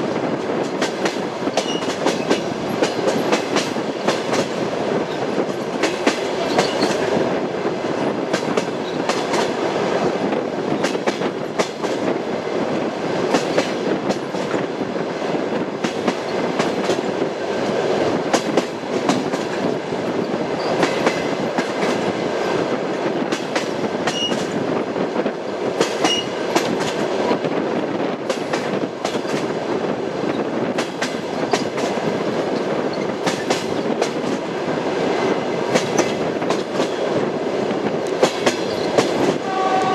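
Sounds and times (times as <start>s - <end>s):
passenger train rumble: 0.0s - 39.9s
train wheels clickety-clack: 0.0s - 39.9s.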